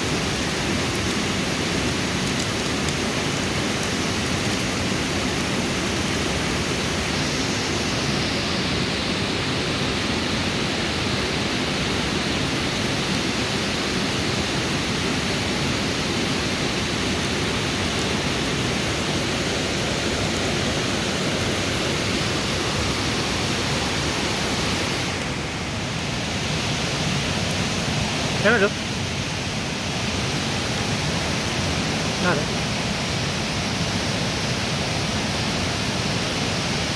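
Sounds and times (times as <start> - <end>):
river flowing over rocks: 0.0 - 36.9.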